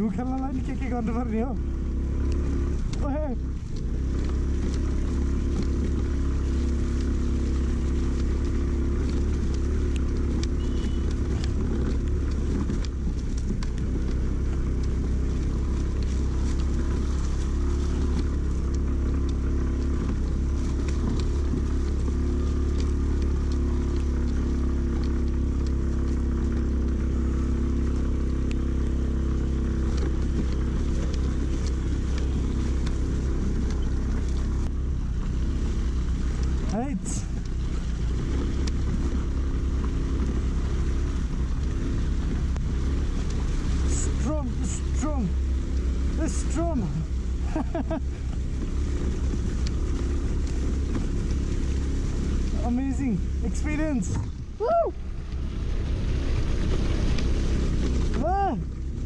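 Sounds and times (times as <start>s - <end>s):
scooter engine humming: 0.0s - 59.0s.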